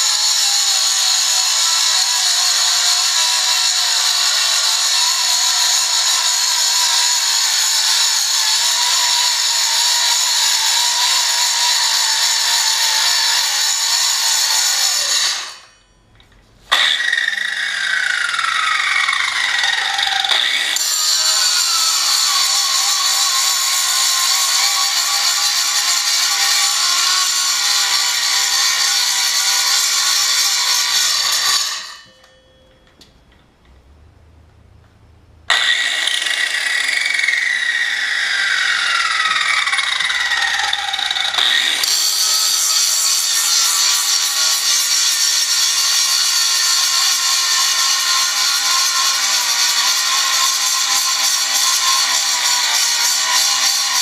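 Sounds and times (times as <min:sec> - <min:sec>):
angle grinder grinding steel: 0:00.0 - 0:15.9, 0:16.7 - 0:32.4, 0:35.5 - 0:54.0.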